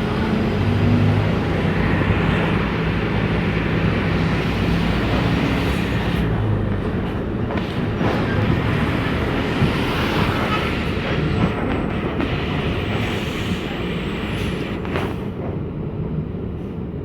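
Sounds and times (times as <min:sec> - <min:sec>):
bus engine hum: 0:00.0 - 0:16.8
road and body rumble: 0:00.0 - 0:16.8.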